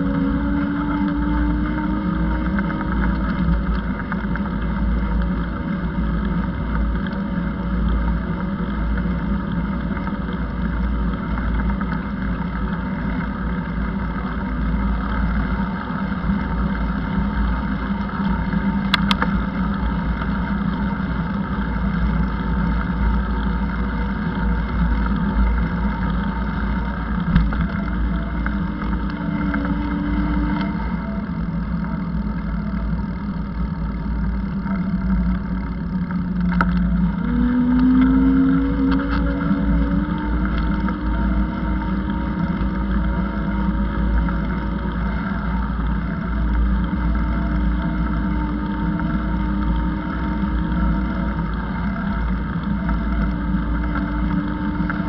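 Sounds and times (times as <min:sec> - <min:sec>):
motor drone: 0:00.0 - 0:55.0
wind rumbling on microphone: 0:00.0 - 0:55.0.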